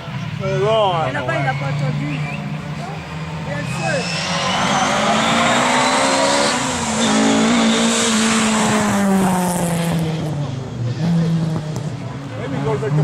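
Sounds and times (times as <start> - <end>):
rally car driving past: 0.1 - 13.0.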